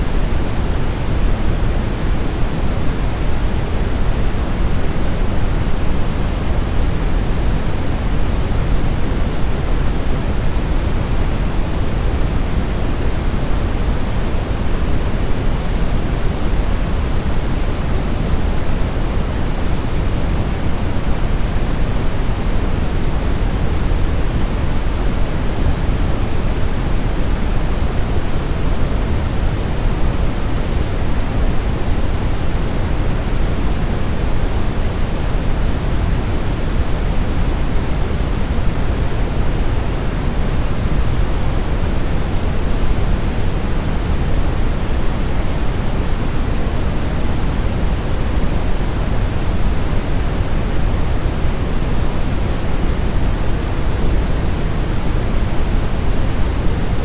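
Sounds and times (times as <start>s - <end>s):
brown noise hiss: 0.0s - 57.0s.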